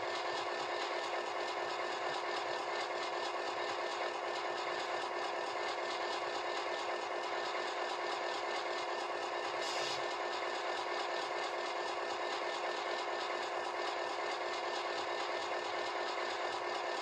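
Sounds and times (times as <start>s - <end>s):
simulated diesel engine idling: 0.0s - 17.0s.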